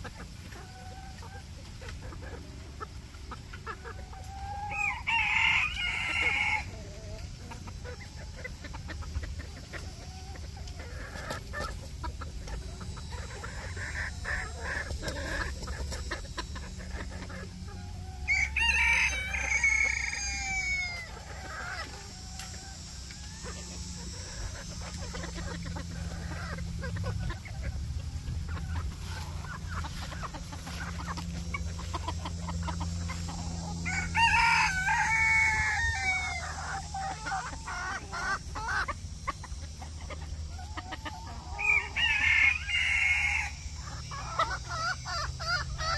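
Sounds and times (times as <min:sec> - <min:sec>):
chickens clucking: 0:00.0 - 0:45.9
roosters crowing: 0:00.0 - 0:45.9.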